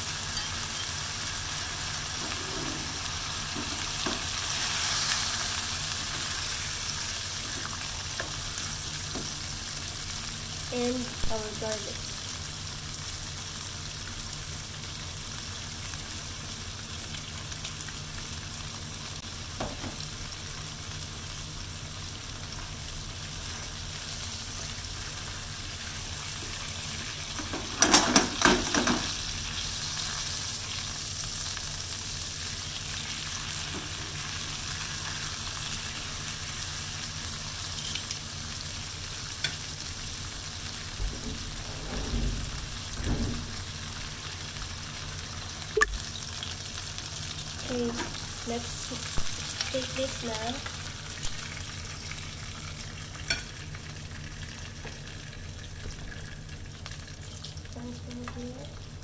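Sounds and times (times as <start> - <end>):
steak sizzling in a frying pan: 0.0 - 41.5, 42.7 - 59.0.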